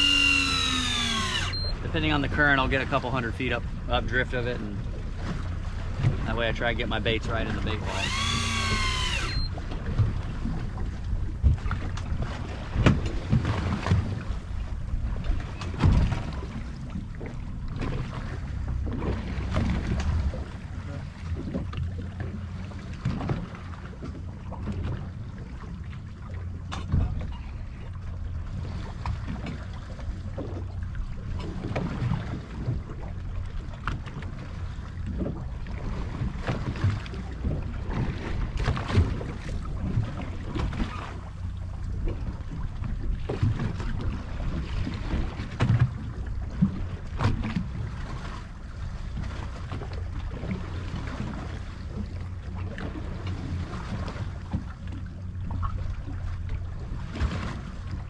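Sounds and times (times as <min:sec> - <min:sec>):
waves slapping boat hull: 0:00.0 - 0:58.0.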